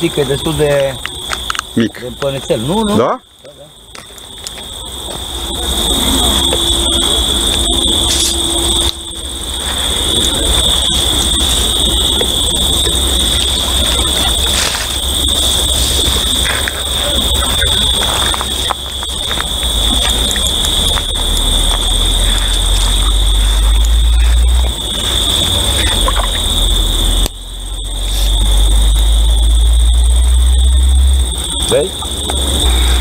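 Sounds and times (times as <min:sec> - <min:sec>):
high-pitched insect trill: 0:00.0 - 0:33.0
low rumble: 0:04.8 - 0:33.0.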